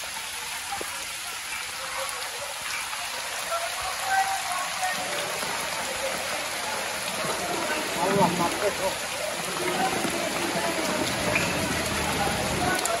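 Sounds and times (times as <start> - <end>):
heavy rain on water: 0.0 - 13.0.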